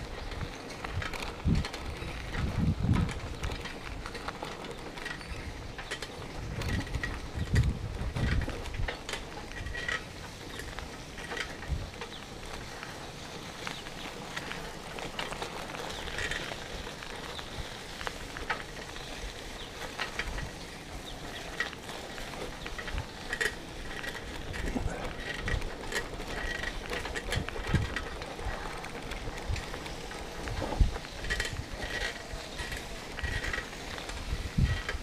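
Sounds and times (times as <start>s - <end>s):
bicycle clicking and rattling: 0.0s - 35.0s.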